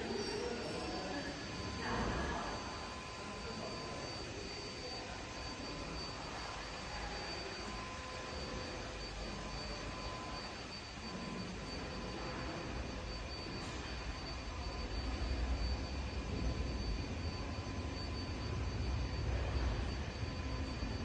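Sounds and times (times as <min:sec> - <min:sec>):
high-pitched machine whine: 0:00.0 - 0:21.0
machinery drone: 0:00.0 - 0:21.0.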